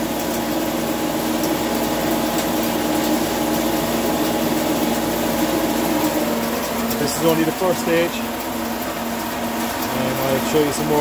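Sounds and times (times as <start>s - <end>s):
hammer mill motor hum: 0.0s - 11.0s
sawdust pouring from chute: 0.0s - 11.0s.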